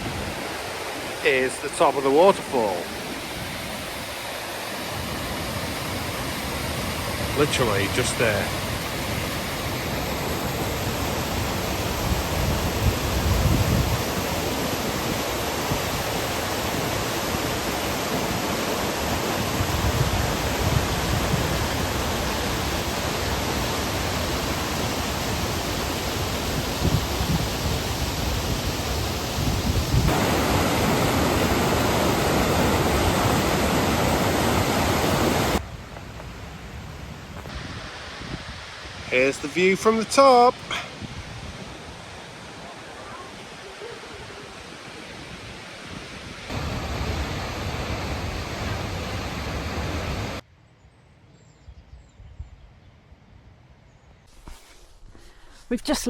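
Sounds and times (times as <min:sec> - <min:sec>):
waterfall rushing: 0:00.0 - 0:35.6, 0:37.5 - 0:41.1, 0:41.8 - 0:50.4.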